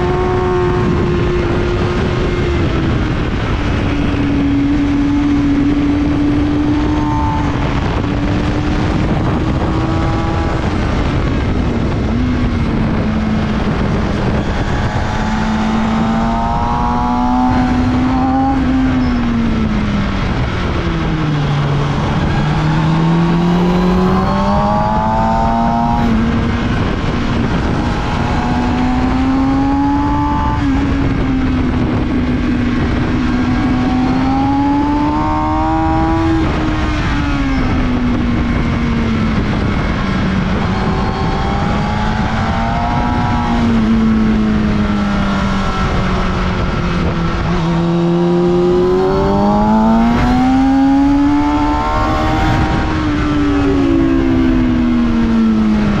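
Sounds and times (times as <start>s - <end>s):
motorcycle engine at speed: 0.0s - 56.0s
wind noise: 0.0s - 56.0s.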